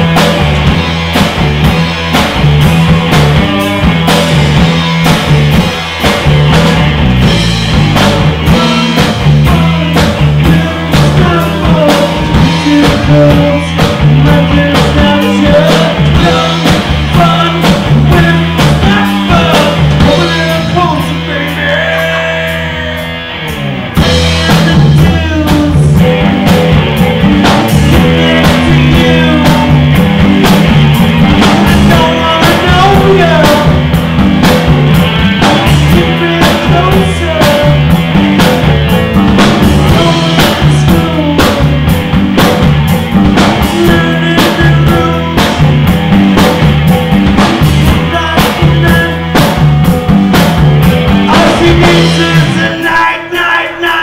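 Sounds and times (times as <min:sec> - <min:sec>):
drum kit beat: 0:00.0 - 0:54.0
electric bass: 0:00.0 - 0:54.0
electric guitars: 0:00.0 - 0:54.0.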